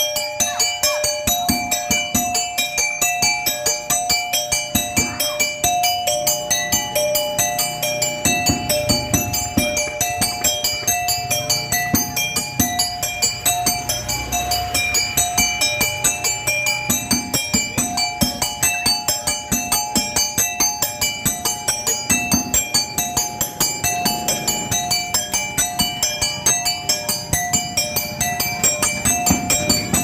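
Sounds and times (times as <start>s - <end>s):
tinkling chime-like melody: 0.0s - 30.0s.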